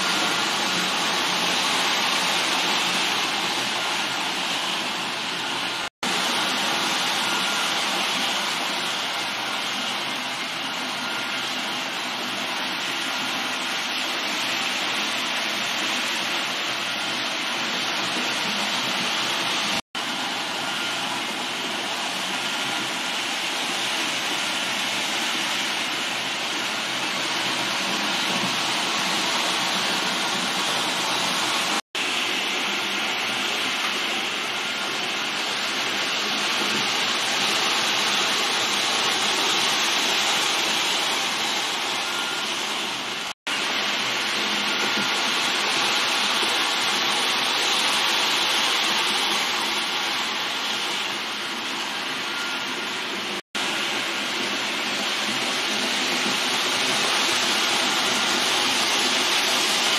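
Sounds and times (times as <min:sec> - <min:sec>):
model train running: 0:00.0 - 0:59.9.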